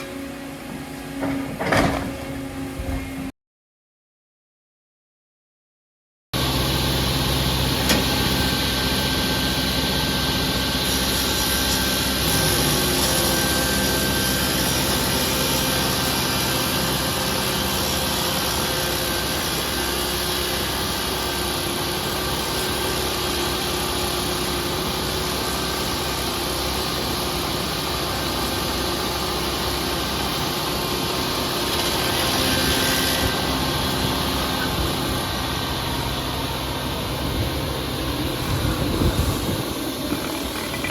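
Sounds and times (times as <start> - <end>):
heavy machinery engine running: 6.4 - 40.9.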